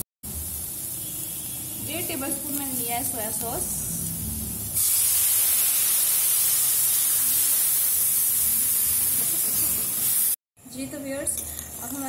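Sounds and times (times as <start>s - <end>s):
vegetables sizzling in hot oil: 0.2s - 12.0s.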